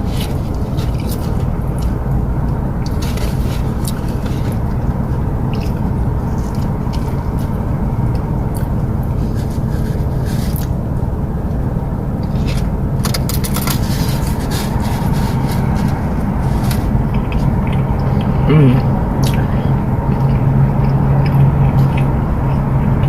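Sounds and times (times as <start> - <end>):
chewing and pulling apart rib: 0.0 - 10.8, 12.2 - 18.4, 20.1 - 23.0
steady low hum: 0.0 - 23.0.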